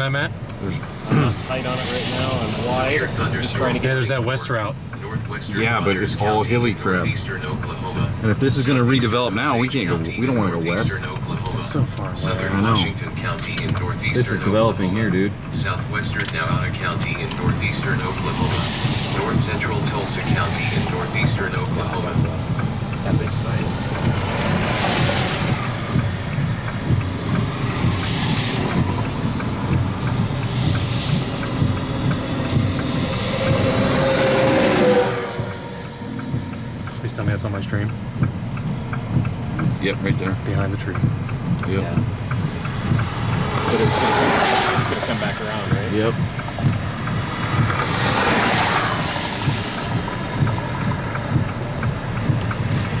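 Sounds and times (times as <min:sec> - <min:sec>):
gusty wind buffeting microphone: 0:09.1 - 0:53.0.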